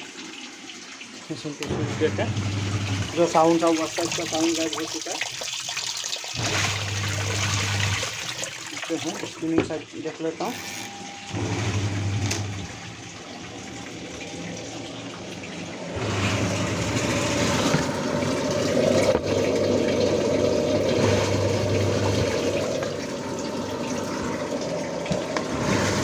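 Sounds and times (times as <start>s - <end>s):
washing machine spin tub running: 0.0s - 26.0s.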